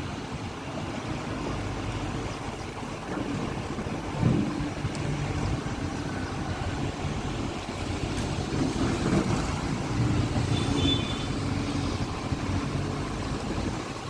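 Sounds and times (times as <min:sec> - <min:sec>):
excavator diesel engine running: 0:00.2 - 0:14.0.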